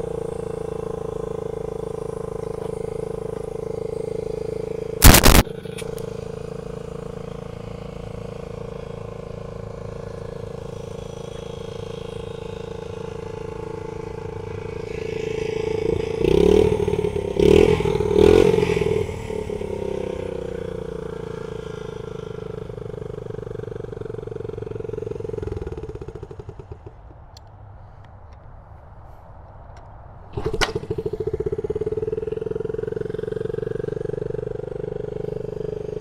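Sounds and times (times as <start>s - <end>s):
small motorcycle engine idling: 0.0s - 28.0s, 29.8s - 36.0s.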